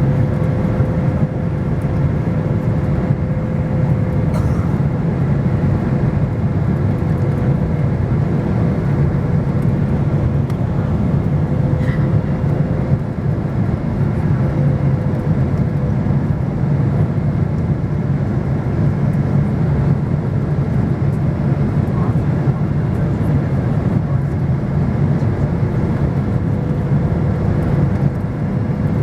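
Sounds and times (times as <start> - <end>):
engine and airflow rumble: 0.0 - 29.0.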